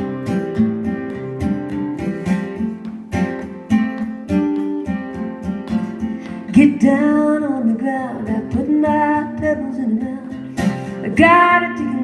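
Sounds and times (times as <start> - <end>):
acoustic guitar strummed and picked: 0.0 - 12.0.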